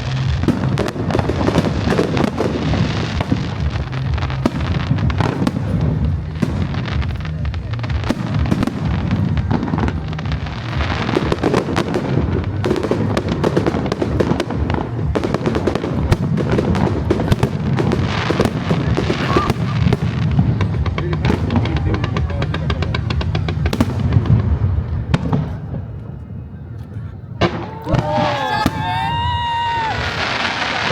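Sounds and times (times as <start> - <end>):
music playing: 0.0 - 25.5, 26.8 - 30.9
fireworks crackling and booming: 0.0 - 26.6, 27.2 - 30.9.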